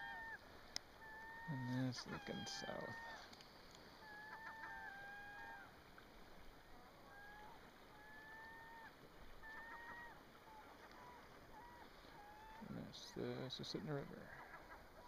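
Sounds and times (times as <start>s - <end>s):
river flowing: 0.0s - 15.0s
wind: 0.0s - 15.0s.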